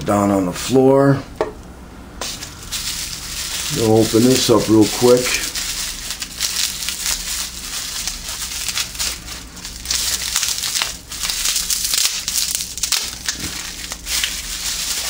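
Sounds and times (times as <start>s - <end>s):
bubble wrap crinkling: 2.2s - 15.0s.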